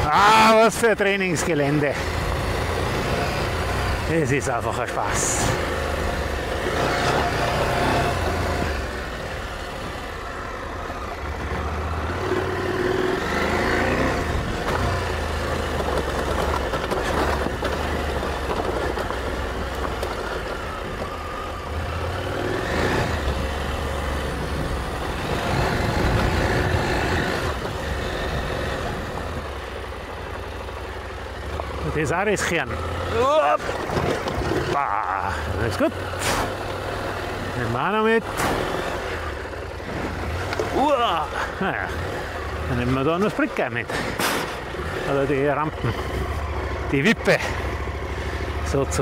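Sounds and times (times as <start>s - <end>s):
motorcycle engine revving: 0.0s - 49.0s
tyres on gravel: 0.0s - 49.0s.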